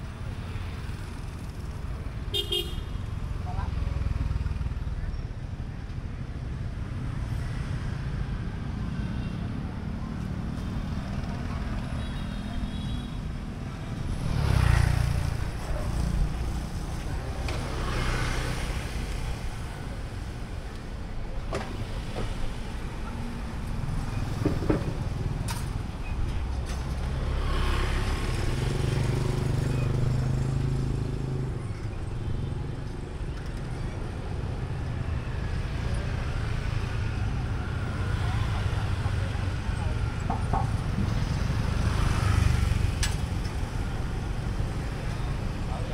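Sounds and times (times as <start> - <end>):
low traffic rumble: 0.0 - 45.9
motorbikes and cars passing: 0.0 - 45.9.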